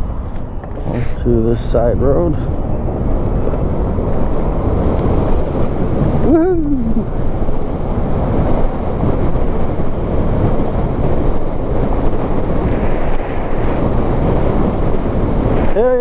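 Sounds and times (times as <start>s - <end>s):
bike rolling on gravel: 0.0s - 16.0s
wind buffeting microphone: 0.0s - 16.0s.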